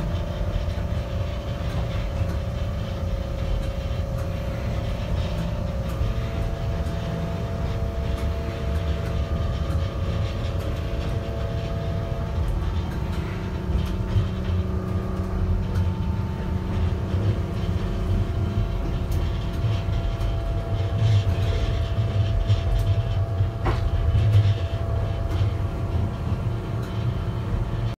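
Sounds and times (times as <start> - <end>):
faint steady hum: 0.0 - 28.0
streetcar low rumble: 0.0 - 28.0.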